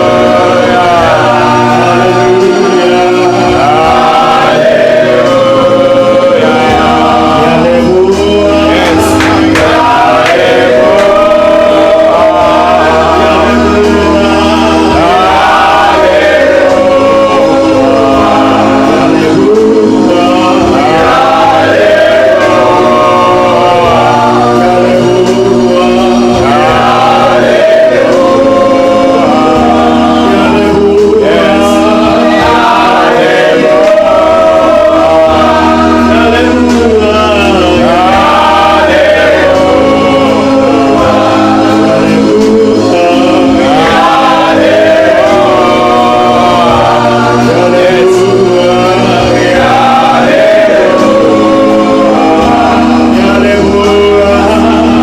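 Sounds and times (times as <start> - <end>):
congregation singing: 0.0 - 55.0.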